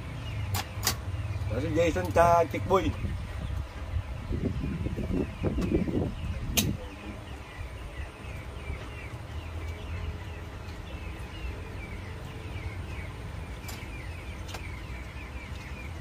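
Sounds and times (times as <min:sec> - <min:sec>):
small birds chirping: 0:00.0 - 0:16.0
steady low rumble: 0:02.5 - 0:16.0.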